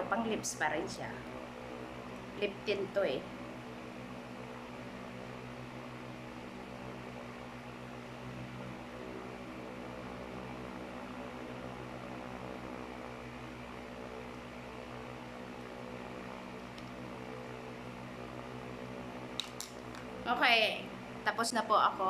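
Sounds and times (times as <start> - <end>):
appliance electrical hum: 0.0 - 22.0.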